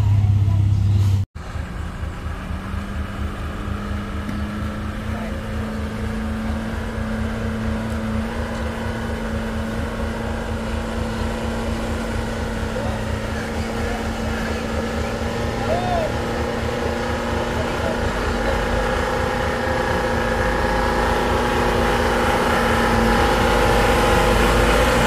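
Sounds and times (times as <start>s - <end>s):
loud engine hum: 0.0s - 25.0s
truck diesel engines droning: 0.0s - 25.0s.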